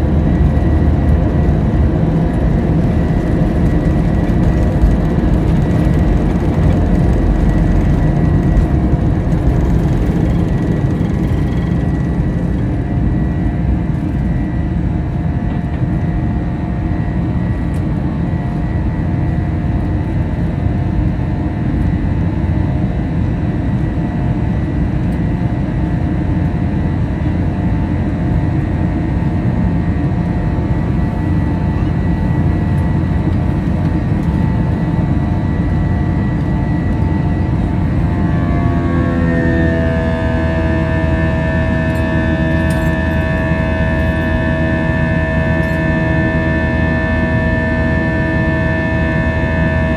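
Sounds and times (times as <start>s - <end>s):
jet engines rumbling in cabin: 0.0s - 49.9s.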